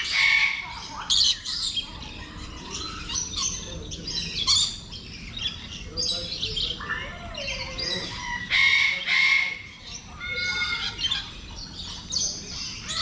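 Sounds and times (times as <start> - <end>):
birds squawking: 0.0 - 13.0.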